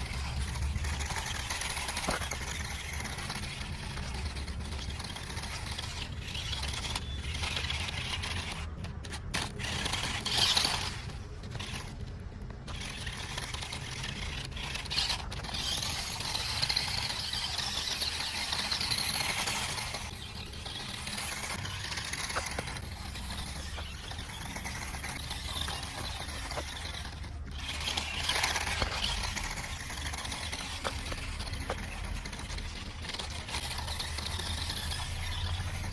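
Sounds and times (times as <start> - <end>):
scraping and rattling over ground: 0.0 - 35.9
toy car motor whirring: 0.0 - 35.9.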